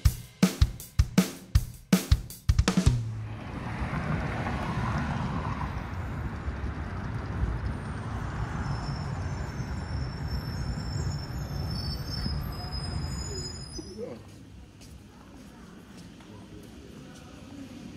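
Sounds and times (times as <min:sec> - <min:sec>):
traffic rumble: 0:02.9 - 0:17.9.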